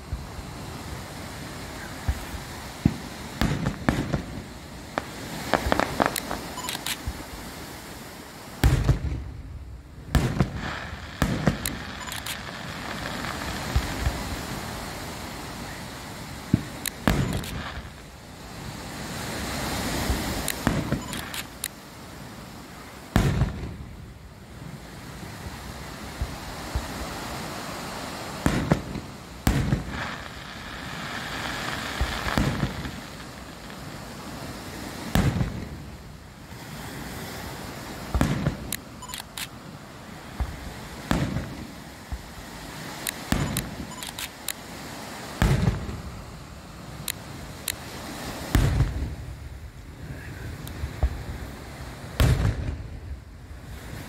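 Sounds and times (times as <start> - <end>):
fireworks bursting with sharp bangs: 0.0 - 54.0.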